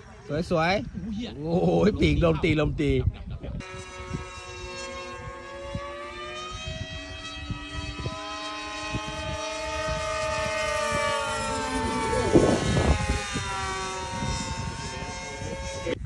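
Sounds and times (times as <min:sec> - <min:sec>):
model airplane propeller drone: 0:00.0 - 0:16.0
wind buffeting microphone: 0:00.0 - 0:16.0.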